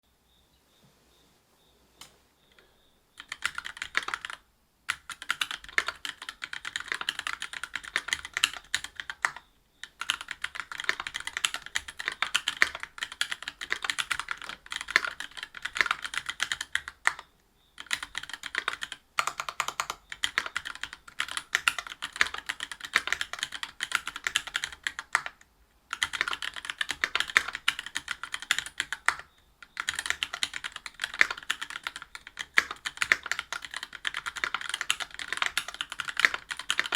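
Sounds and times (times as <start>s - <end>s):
mechanical keyboard typing: 3.2s - 36.9s.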